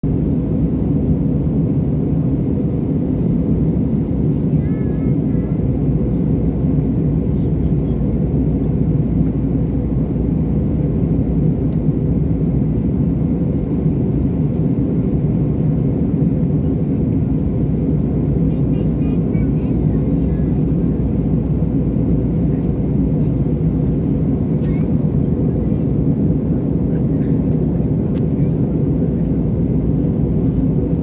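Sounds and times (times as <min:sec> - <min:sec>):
jet engine drone: 0:00.0 - 0:31.0.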